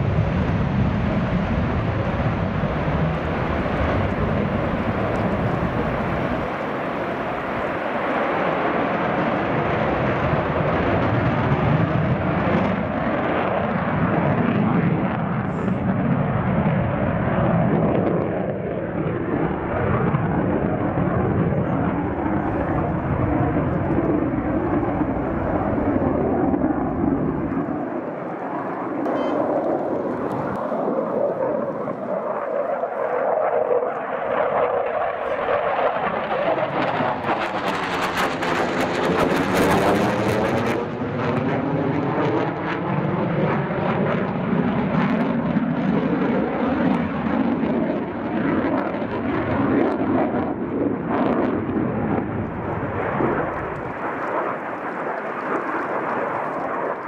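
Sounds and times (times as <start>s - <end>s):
jet engine roar in flight: 0.0s - 57.0s.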